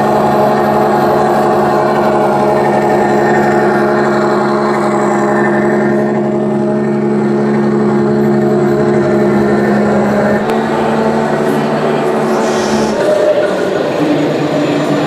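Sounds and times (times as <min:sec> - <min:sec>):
simulated truck engine drone: 0:00.0 - 0:15.0.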